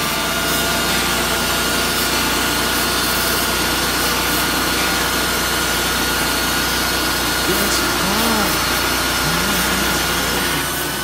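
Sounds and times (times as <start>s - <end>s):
band saw blade cutting log: 0.0s - 11.0s
gasoline engine running: 0.0s - 11.0s
thin high whine: 0.0s - 11.0s.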